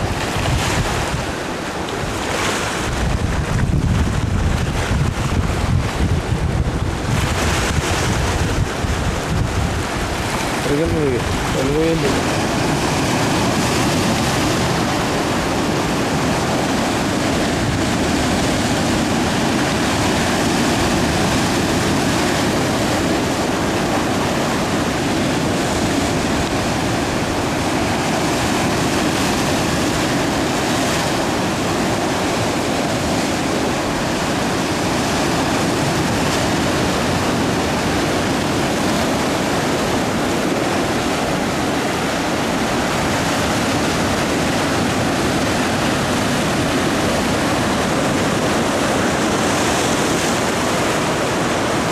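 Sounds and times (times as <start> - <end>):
sea surf on rocky shore: 0.0 - 51.9.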